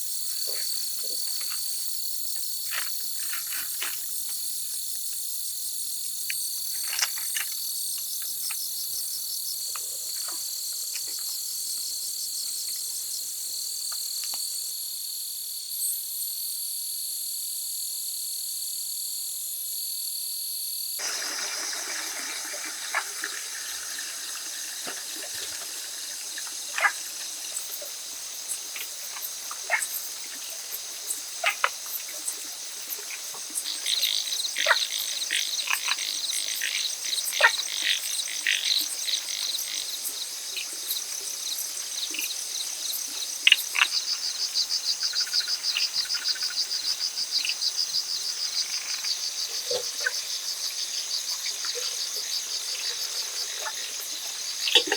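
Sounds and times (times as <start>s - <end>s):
insects trilling: 0.0s - 16.6s, 19.6s - 54.9s.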